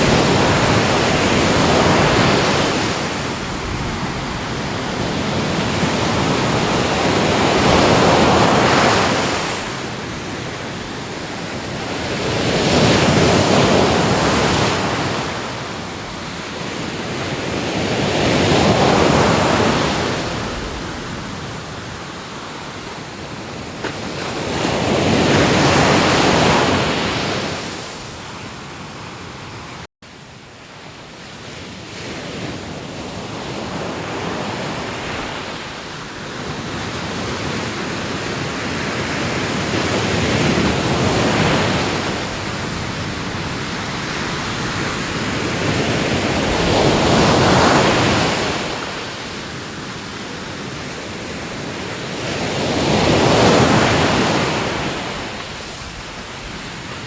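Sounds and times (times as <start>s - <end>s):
ocean waves breaking: 0.0s - 29.8s, 32.4s - 57.0s.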